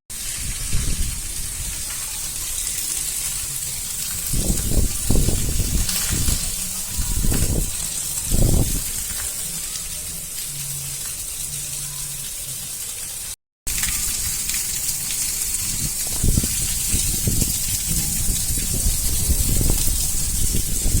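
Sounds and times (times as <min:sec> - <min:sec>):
heavy rain hissing: 0:00.1 - 0:21.0.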